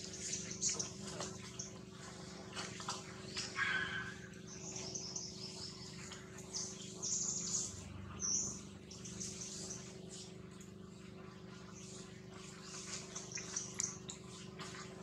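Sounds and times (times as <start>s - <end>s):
small birds chirping: 0.0s - 2.3s, 3.0s - 14.8s
steady low hum: 0.0s - 15.0s.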